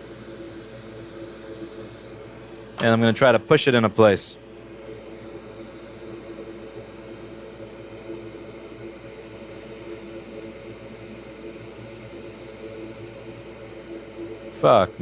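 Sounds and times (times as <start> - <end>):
faint steady hum: 0.0 - 15.0
hot air station blowing: 0.0 - 15.0.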